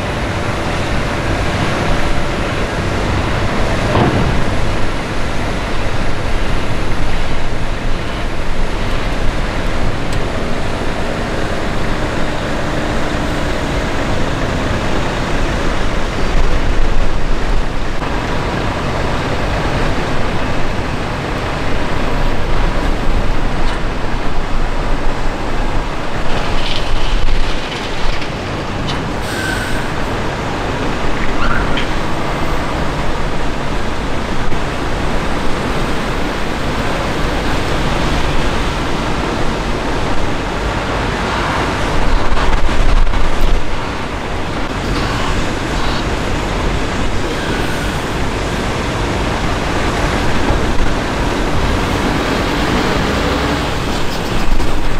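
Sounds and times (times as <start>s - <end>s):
lorry diesel engines running: 0.0s - 54.9s
tyres rolling on wet ground: 0.0s - 54.9s.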